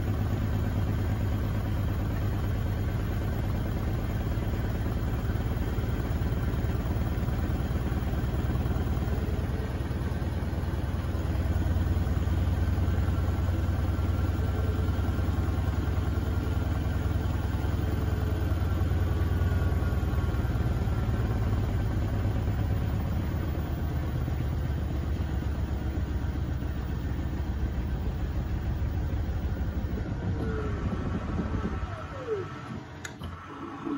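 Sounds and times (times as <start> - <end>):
washing machine drum spinning: 0.0 - 33.9.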